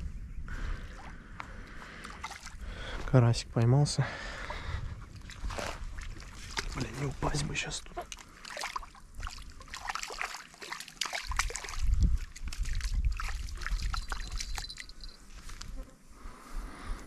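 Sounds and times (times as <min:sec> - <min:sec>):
water sloshing and trickling: 0:00.9 - 0:03.2, 0:04.3 - 0:15.7.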